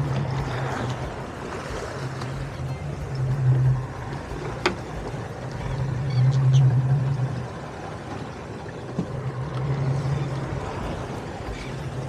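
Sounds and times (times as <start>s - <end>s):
boat motor running: 0.0s - 12.0s
water washing along hull: 0.0s - 12.0s.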